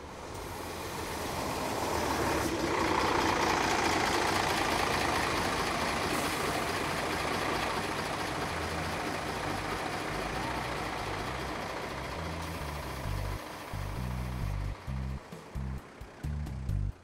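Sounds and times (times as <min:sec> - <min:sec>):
bus idling: 0:00.0 - 0:17.0
vehicle engines in traffic: 0:00.0 - 0:17.0.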